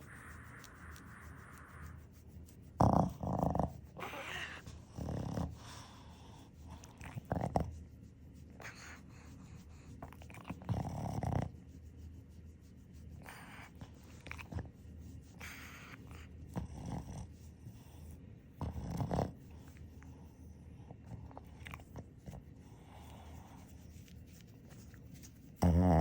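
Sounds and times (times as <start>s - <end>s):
dog snuffling and snoring: 0.0s - 11.8s, 13.2s - 24.2s, 25.4s - 26.0s.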